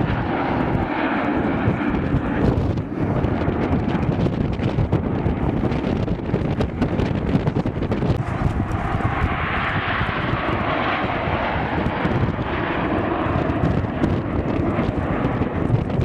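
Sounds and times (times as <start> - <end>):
aircraft flying past: 0.0 - 16.0
wind buffeting microphone: 0.0 - 16.0.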